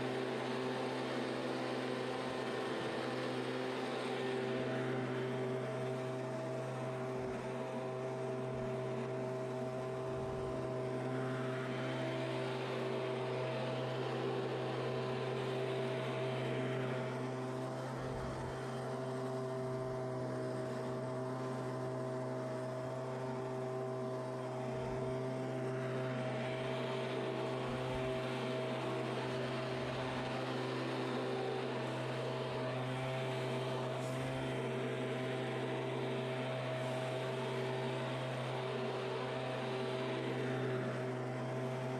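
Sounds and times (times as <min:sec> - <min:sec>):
leaf blower running: 0:00.0 - 0:41.9.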